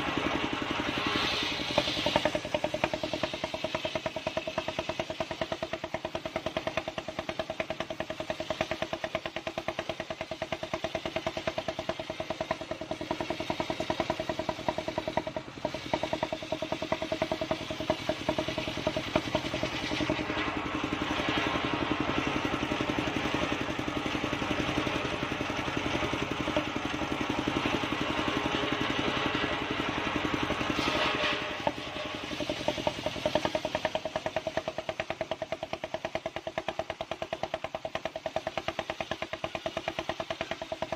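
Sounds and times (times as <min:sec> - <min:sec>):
engine hum: 0:00.0 - 0:40.9
saw blade cutting log: 0:00.5 - 0:35.0.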